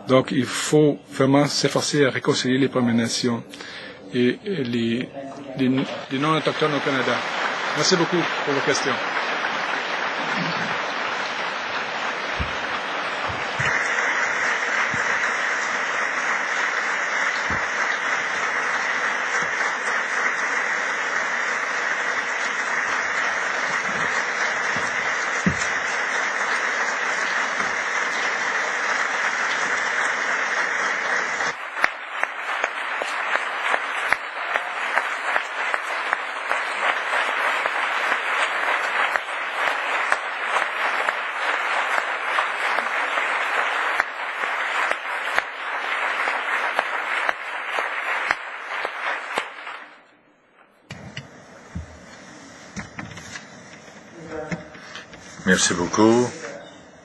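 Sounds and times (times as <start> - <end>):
large audience applauding: 1.3 - 50.1, 50.9 - 57.0.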